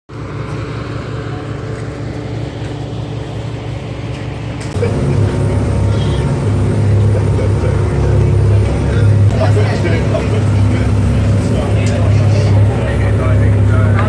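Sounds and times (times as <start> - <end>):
ferry engines droning: 0.1 - 14.0.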